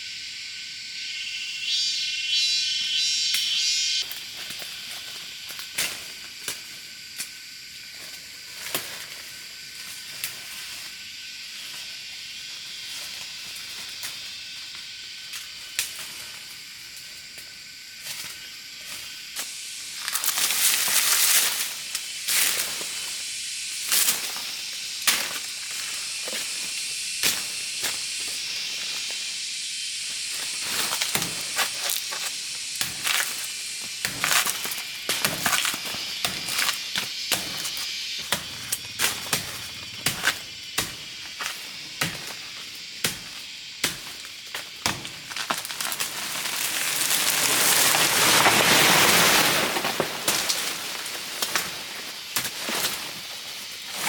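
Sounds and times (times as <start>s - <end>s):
steady high hiss: 0.0s - 54.0s.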